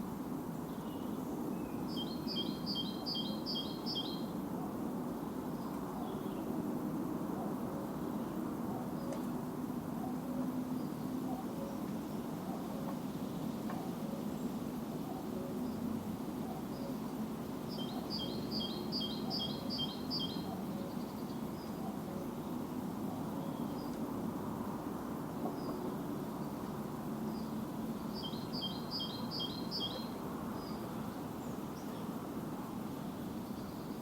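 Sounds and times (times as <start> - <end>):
songbird singing: 0.5 - 6.6, 7.4 - 24.1, 25.4 - 34.0.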